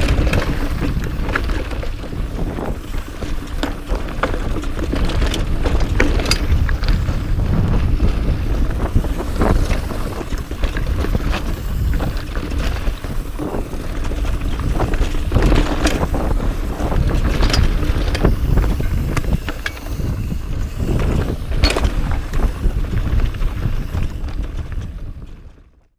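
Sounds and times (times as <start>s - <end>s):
tyres rolling on dirt: 0.0s - 25.8s
wind on microphone: 0.0s - 25.8s
bike rattling over rocks: 0.0s - 25.9s.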